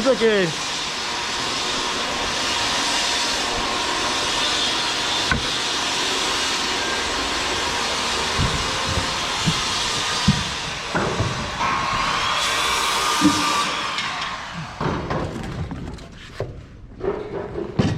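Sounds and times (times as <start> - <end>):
machine whirring: 0.0 - 14.9.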